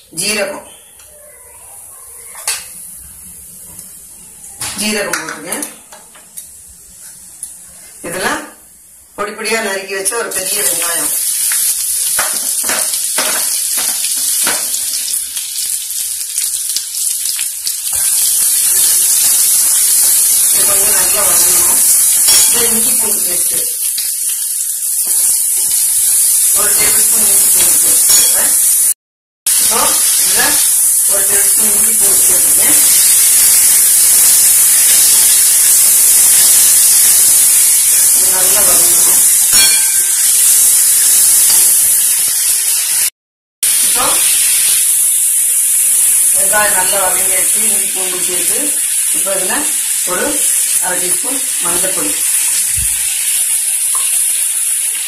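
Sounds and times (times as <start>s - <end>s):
onions sizzling in hot oil: 6.4s - 55.0s.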